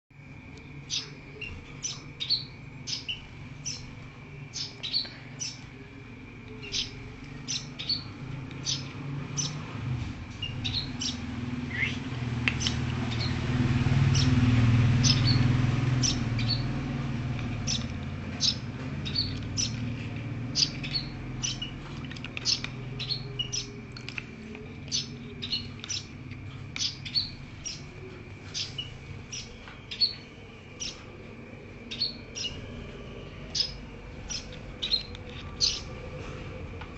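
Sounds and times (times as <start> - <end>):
birds chirping: 0.2 - 36.9.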